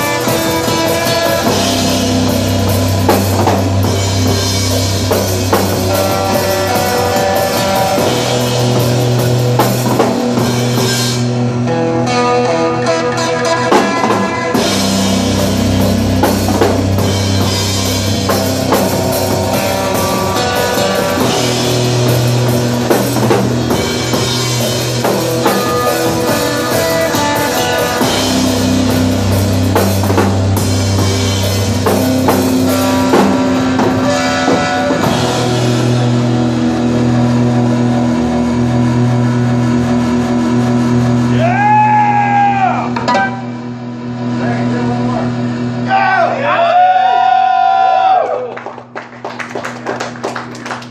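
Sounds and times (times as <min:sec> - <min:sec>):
drum kit with cymbals: 0:00.0 - 0:46.4
low bass notes: 0:00.0 - 0:48.2
electric guitar: 0:00.0 - 0:50.9.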